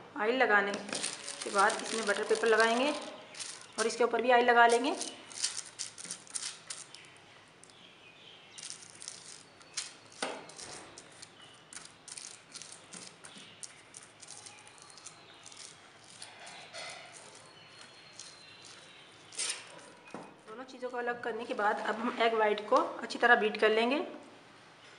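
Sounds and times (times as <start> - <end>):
pastry brush rustling on paper: 0.8 - 7.1, 8.6 - 22.2.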